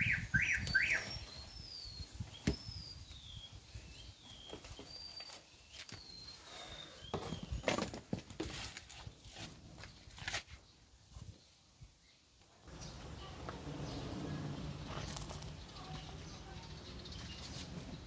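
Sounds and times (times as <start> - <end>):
birds calling with whistled notes: 0.0 - 18.0.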